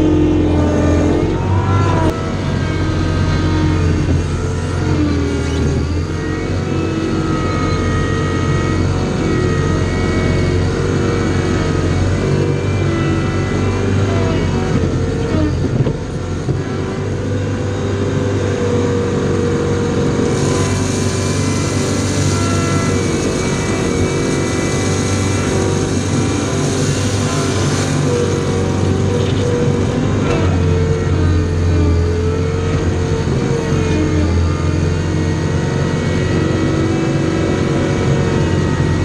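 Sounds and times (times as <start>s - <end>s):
skid steer engine running: 0.0s - 39.0s.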